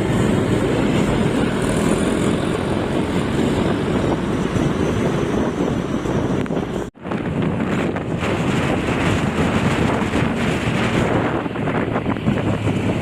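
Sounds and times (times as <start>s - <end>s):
vehicle road noise: 0.0s - 13.0s
wind buffeting microphone: 0.0s - 13.0s.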